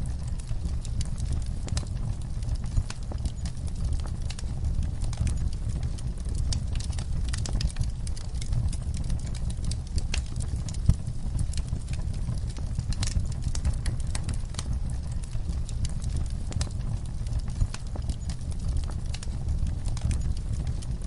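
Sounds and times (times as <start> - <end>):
campfire crackling: 0.0 - 21.0
low rumble: 0.0 - 21.0.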